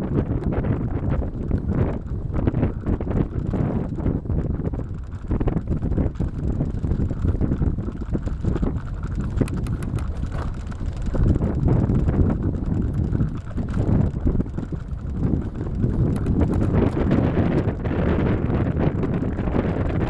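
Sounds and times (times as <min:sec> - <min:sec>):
bike clicks and rattles: 0:00.0 - 0:20.0
wind rushing over microphone: 0:00.0 - 0:20.0.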